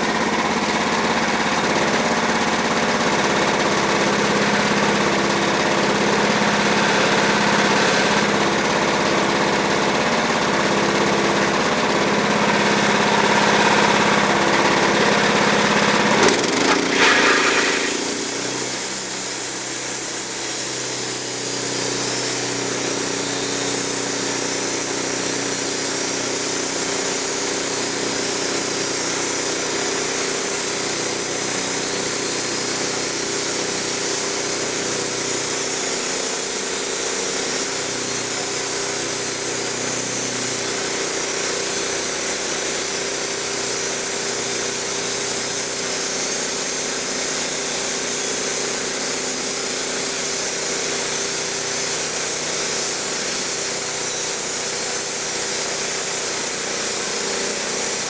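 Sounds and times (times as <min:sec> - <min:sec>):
band sawmill sawing log: 0:00.0 - 0:58.0.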